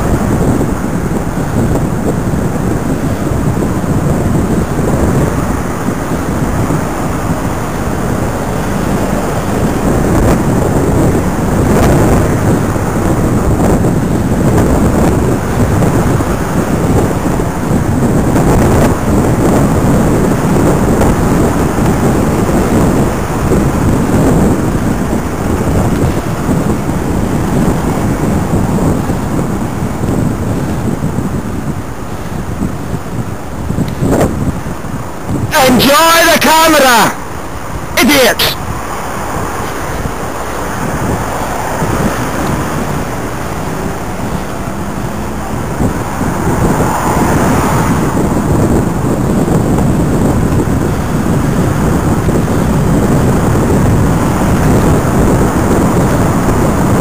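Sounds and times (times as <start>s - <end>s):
wind buffeting microphone: 0.0s - 35.6s, 37.2s - 38.0s, 38.6s - 57.0s
passing road traffic: 0.0s - 57.0s.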